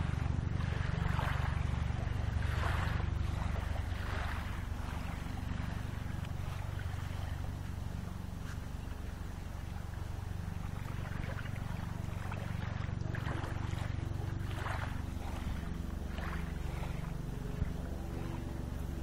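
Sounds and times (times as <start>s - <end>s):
gentle splashes: 0.0s - 19.0s
small waves lapping: 0.0s - 19.0s
steady low rumble: 0.0s - 19.0s.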